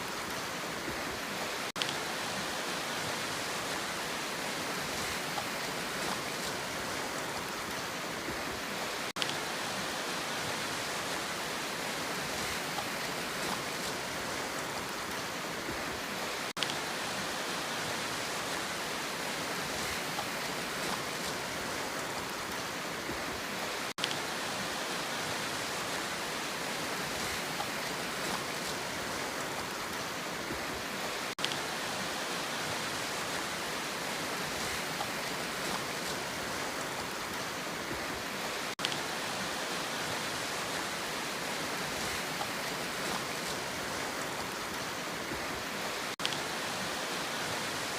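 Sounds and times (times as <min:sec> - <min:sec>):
sea water rushing: 0:00.0 - 0:47.9.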